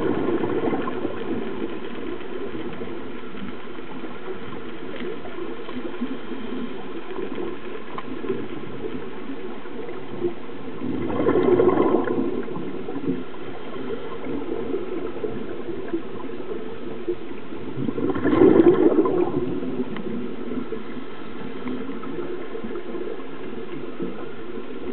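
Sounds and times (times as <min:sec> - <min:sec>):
low underwater hum: 0:00.0 - 0:24.9
regulator exhaust bubbles underwater: 0:00.0 - 0:24.9.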